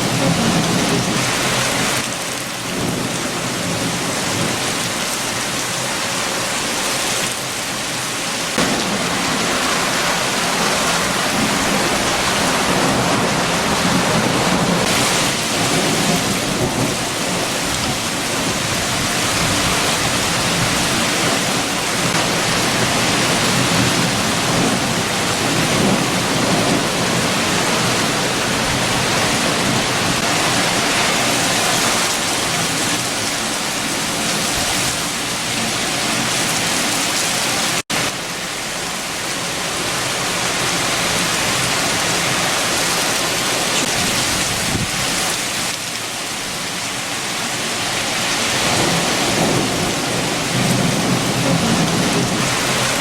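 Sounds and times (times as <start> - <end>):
heavy rain falling: 0.0 - 53.0
strong wind: 0.0 - 53.0.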